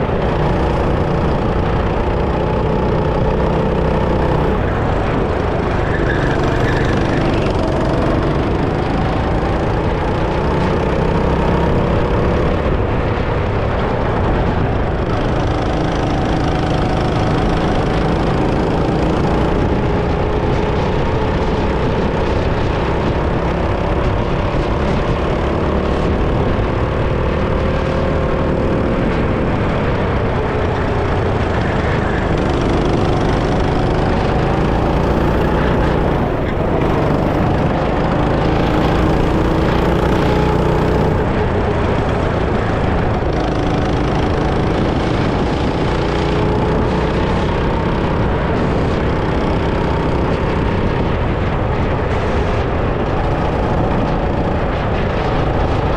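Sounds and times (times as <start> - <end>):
go-kart engine revving: 0.0 - 55.9.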